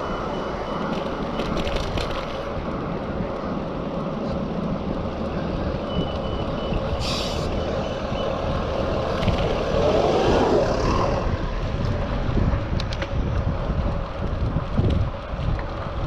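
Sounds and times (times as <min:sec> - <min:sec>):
bicycle tyre noise: 0:00.2 - 0:16.0
wind on microphone: 0:01.6 - 0:16.0.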